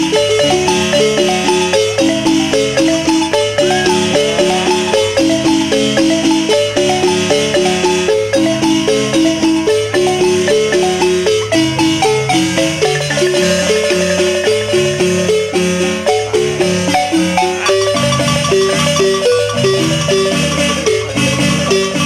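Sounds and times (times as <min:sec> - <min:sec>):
marimba played with mallets: 0:00.0 - 0:22.0.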